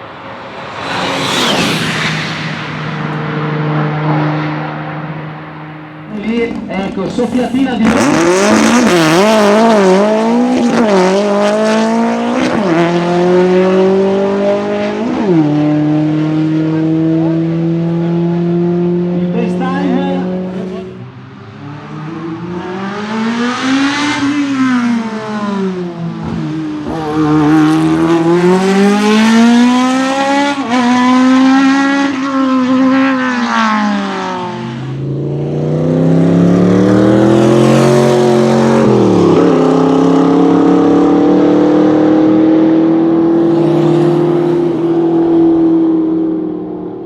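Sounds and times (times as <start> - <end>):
race car engine revving: 0.0 - 47.0.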